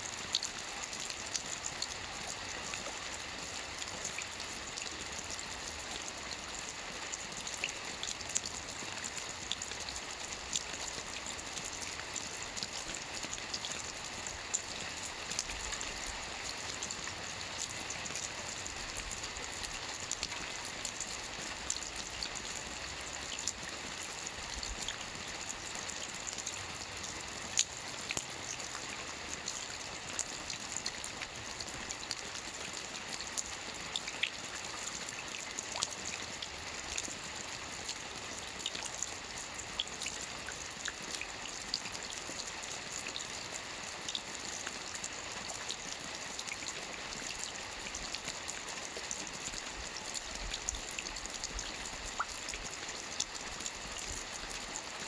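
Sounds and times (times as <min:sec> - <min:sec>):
rain pattering on a roof: 0:00.0 - 0:55.0.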